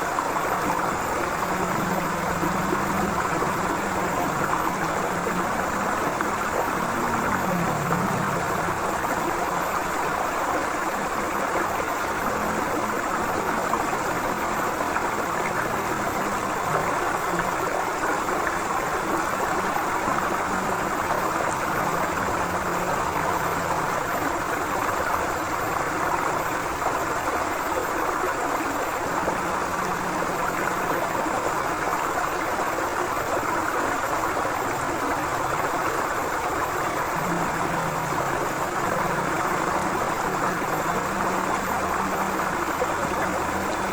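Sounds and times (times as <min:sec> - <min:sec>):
river rushing over stones: 0:00.0 - 0:43.9.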